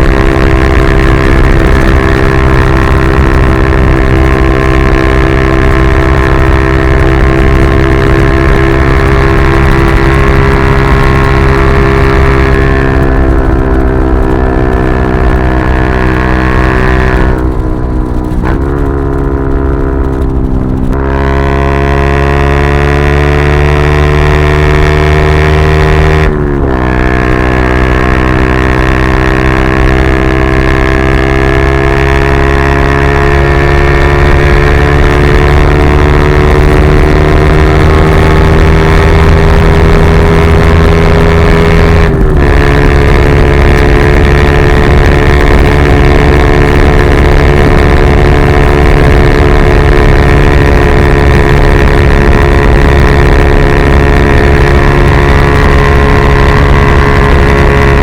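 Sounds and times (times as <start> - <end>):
motorcycle engine under load: 0.0 - 58.0.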